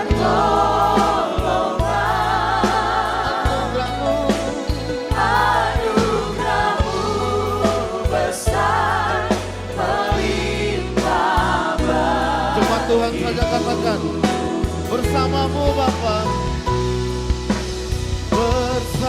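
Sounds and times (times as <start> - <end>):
band bass and beats: 0.0 - 19.0.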